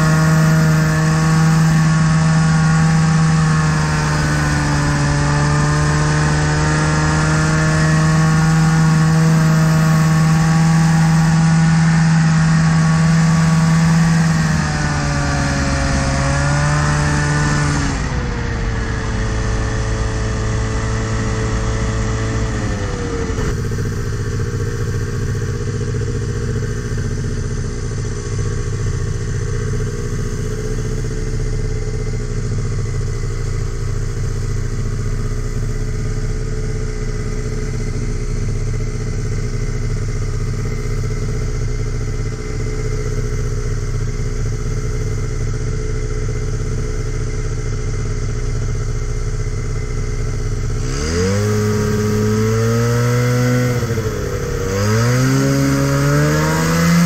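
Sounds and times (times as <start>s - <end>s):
ultralight engine running: 0.0s - 57.0s.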